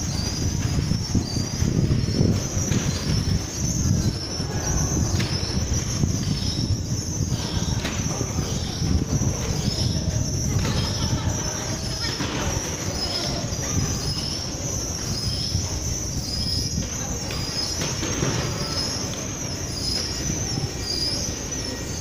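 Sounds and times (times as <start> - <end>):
indistinct voices: 0.0 - 22.0.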